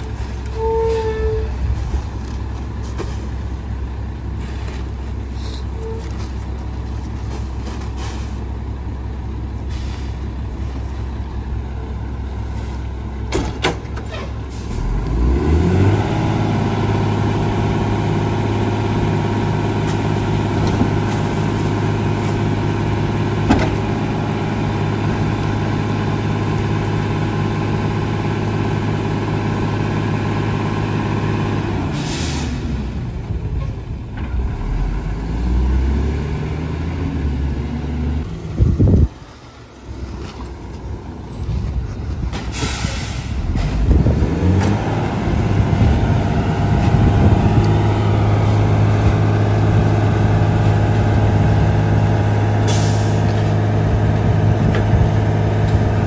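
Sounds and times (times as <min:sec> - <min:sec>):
diesel truck engine idling and revving: 0:00.0 - 0:56.0.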